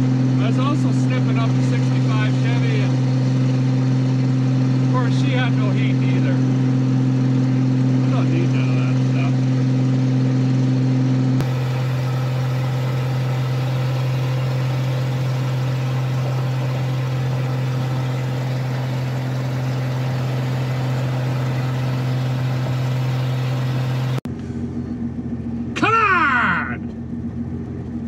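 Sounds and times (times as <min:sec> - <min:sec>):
pickup engine and exhaust droning: 0:00.0 - 0:25.8.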